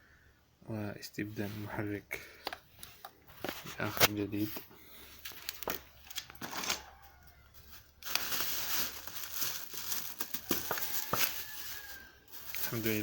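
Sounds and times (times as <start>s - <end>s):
crinkling and rustling: 1.4s - 13.0s.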